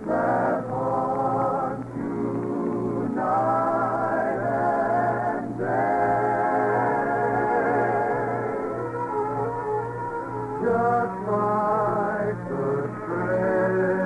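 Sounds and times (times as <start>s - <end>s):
choir and orchestra music: 0.0s - 14.0s.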